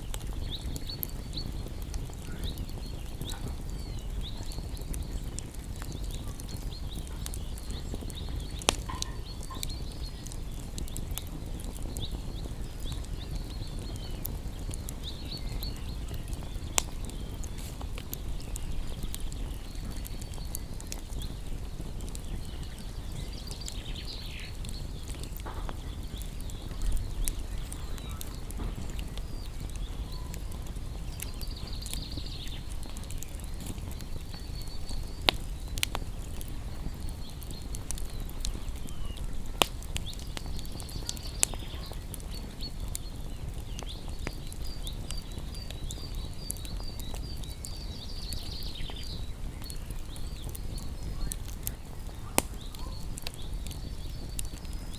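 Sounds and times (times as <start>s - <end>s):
small birds chirping: 0.0s - 54.9s
wood fire crackling: 0.0s - 54.9s.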